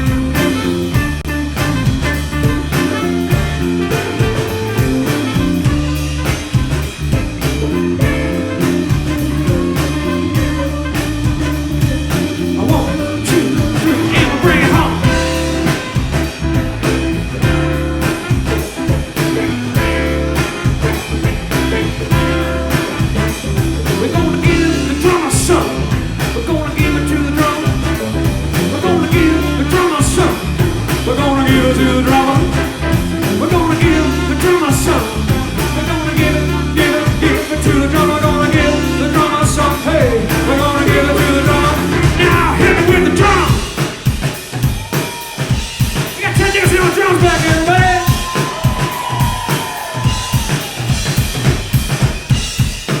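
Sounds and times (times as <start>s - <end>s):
lead melody: 0.0s - 43.8s
bass guitar: 0.0s - 53.0s
drum kit: 0.0s - 53.0s.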